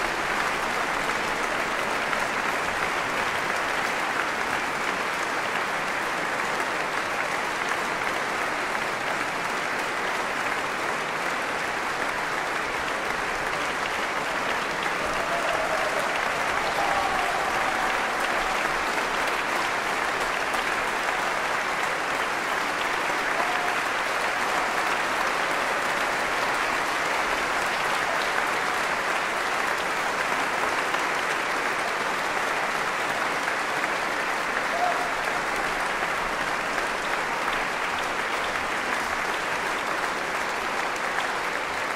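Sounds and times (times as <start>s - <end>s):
audience applauding: 0.0s - 41.9s.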